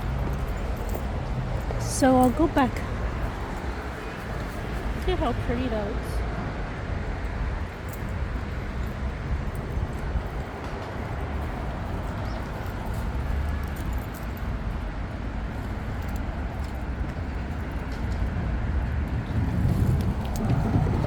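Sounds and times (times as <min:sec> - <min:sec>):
outdoor rumble and hiss: 0:00.0 - 0:21.0.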